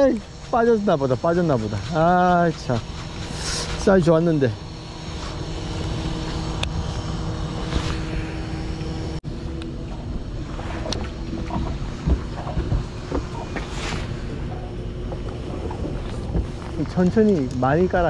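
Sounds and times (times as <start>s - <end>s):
engine hum: 0.0s - 18.0s
wind buffeting microphone: 0.0s - 18.0s.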